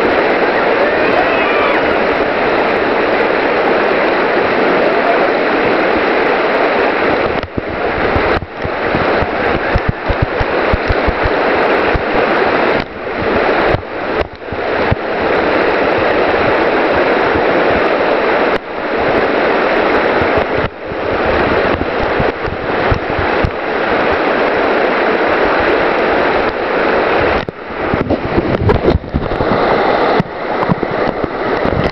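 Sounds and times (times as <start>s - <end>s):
rushing whitewater: 0.0s - 31.9s
wind buffeting microphone: 0.0s - 31.9s.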